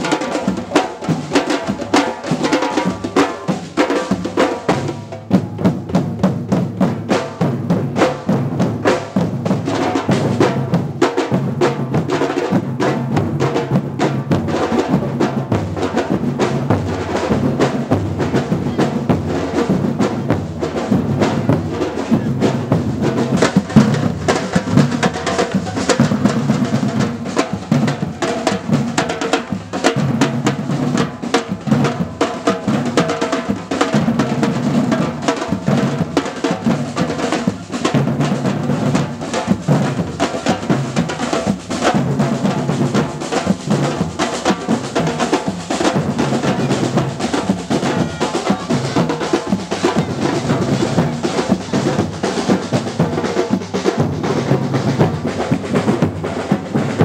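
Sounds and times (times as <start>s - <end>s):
bass drums playing a rhythm: 0.0s - 57.0s.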